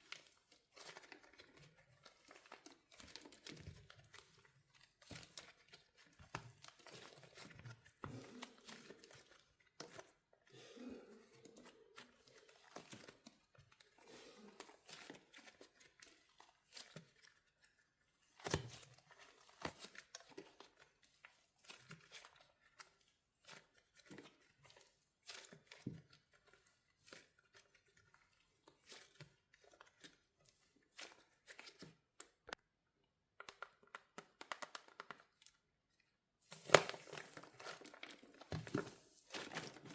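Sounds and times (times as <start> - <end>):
soft crinkling and tearing: 0.0 - 32.6, 33.4 - 39.9
wax coating crackling and snapping: 0.0 - 32.6, 33.2 - 39.9.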